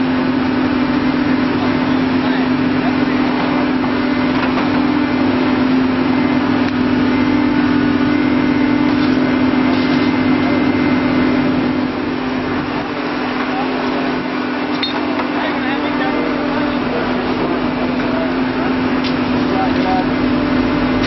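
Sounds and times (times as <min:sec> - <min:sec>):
excavator diesel engine and hydraulics: 0:00.0 - 0:21.0.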